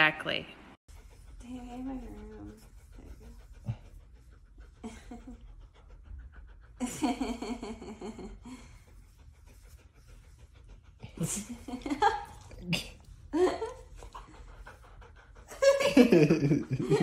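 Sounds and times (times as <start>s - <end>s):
dog panting: 0.9s - 17.0s.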